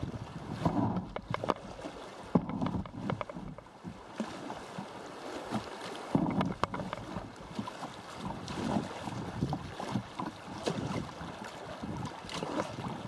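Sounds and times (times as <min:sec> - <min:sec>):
paddle splashing in water: 0:00.0 - 0:13.0.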